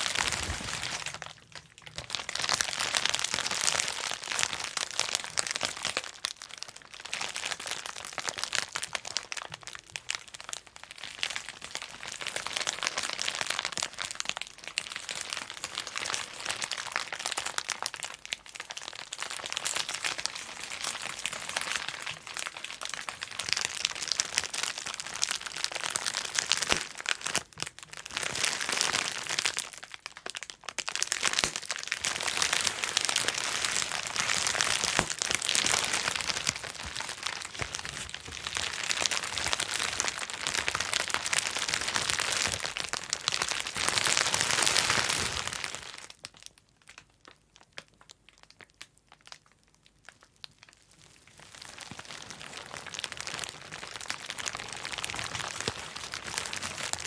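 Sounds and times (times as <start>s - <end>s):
bubble wrap popping and crinkling: 0.0s - 57.0s.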